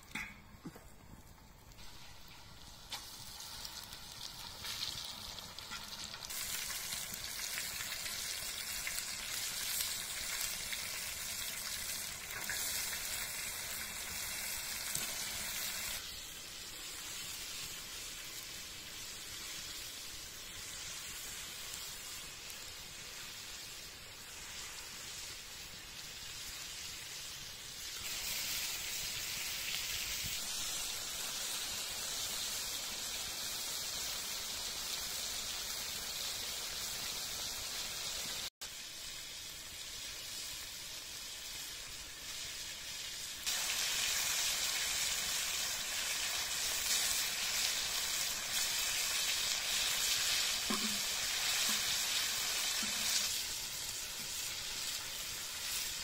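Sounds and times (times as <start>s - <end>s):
chicken frying in oil: 1.7s - 56.0s.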